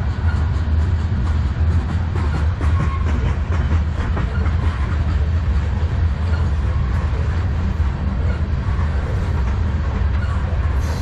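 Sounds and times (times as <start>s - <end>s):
steel wheels rumbling on rails: 0.0s - 11.0s.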